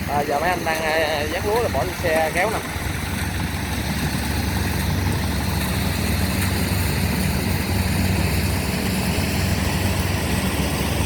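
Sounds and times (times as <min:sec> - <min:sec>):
harvester diesel engine droning: 0:00.0 - 0:11.0.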